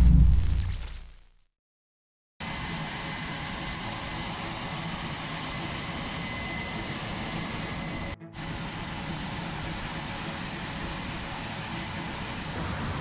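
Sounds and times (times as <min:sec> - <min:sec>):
jet engines running: 0:02.4 - 0:13.0.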